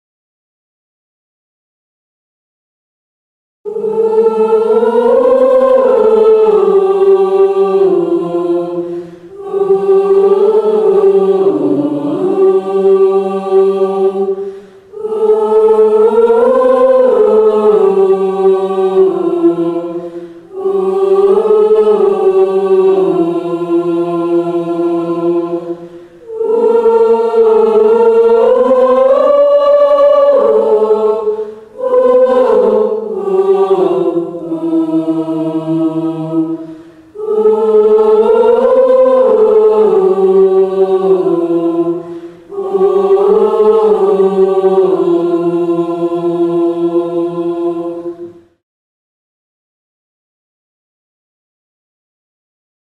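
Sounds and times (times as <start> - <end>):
choir singing a hymn: 3.7 - 48.6.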